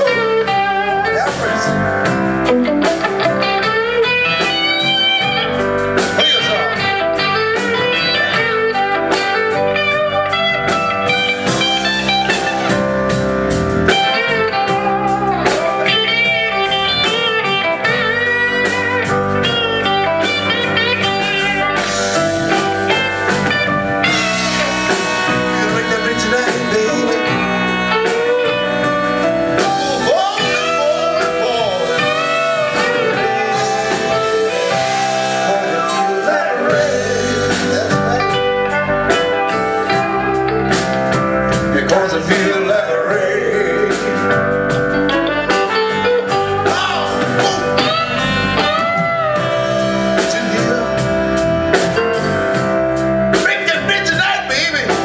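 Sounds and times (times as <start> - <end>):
saxophone: 0.0 - 53.5
live blues band playing: 0.0 - 55.0
trumpet: 3.3 - 40.8, 44.9 - 55.0.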